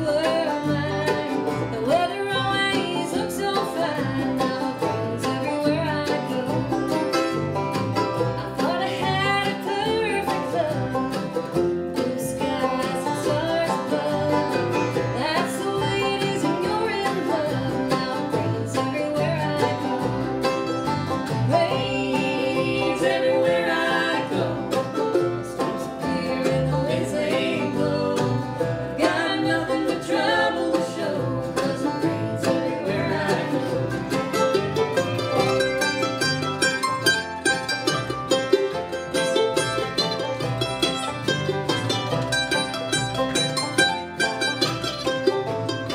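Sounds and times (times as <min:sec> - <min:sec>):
acoustic guitar: 0:00.0 - 0:45.9
banjo: 0:00.0 - 0:45.9
fiddle: 0:00.0 - 0:45.9
mandolin: 0:00.0 - 0:45.9
upright bass: 0:00.0 - 0:45.9.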